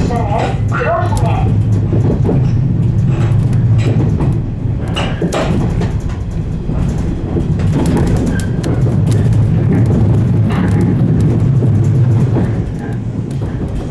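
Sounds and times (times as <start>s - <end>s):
electric train rumble: 0.0s - 13.9s
running gear clicks and knocks: 0.0s - 13.9s.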